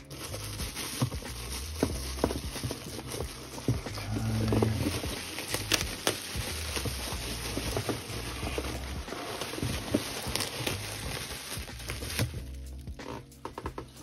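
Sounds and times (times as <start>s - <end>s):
bubble wrap rustling and crinkling: 0.0s - 14.0s
sharp crackles: 0.0s - 14.0s.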